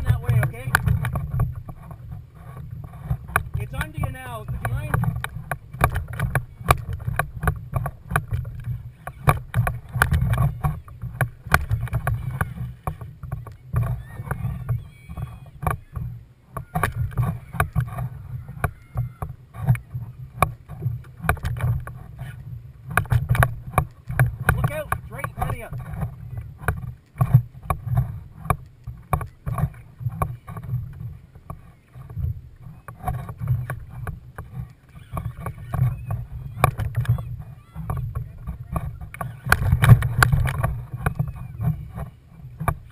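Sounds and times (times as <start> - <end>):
constant low rumble: 0.0 - 42.9
sharp knocks and clicks: 0.0 - 42.9
water slapping against kayak hull: 0.0 - 42.9.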